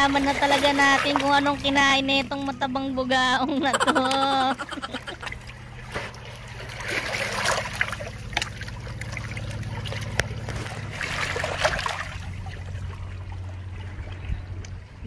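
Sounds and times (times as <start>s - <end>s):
water trickling and splashing: 0.0s - 3.4s, 4.2s - 15.0s
steady low hum: 0.0s - 15.0s.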